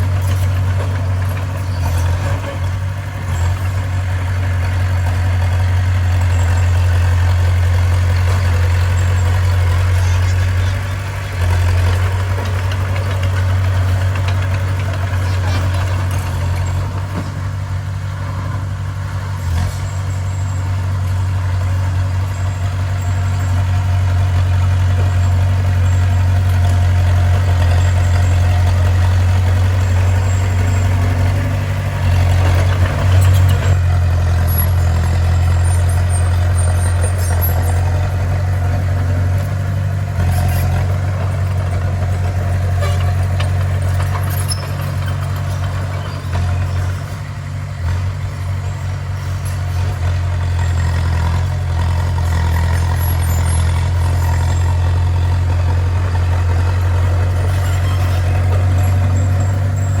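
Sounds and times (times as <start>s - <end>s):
bulldozer diesel engine droning: 0.0s - 60.0s.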